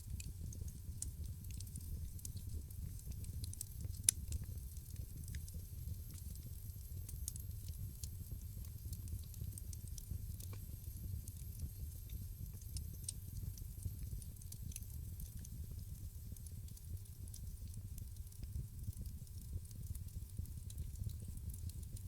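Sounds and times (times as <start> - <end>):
fire popping and snapping: 0.0 - 22.0
low rumble of fire: 0.0 - 22.0.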